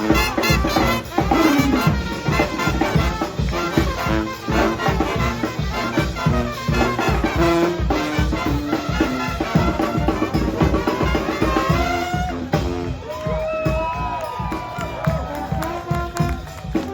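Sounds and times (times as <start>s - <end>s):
driving drumbeat: 0.0s - 16.9s
trumpets and horns playing: 0.0s - 16.9s.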